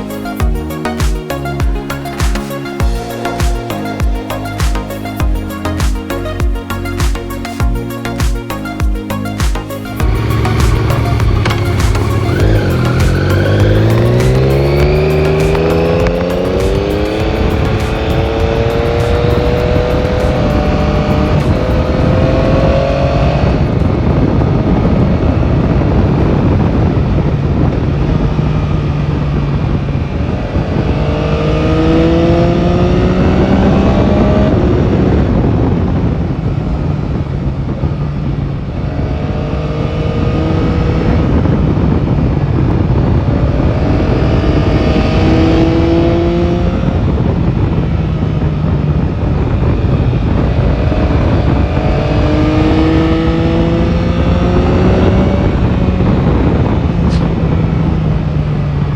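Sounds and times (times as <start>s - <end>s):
motorcycle engine accelerating: 0.0s - 58.9s
wind and road noise: 0.0s - 58.9s.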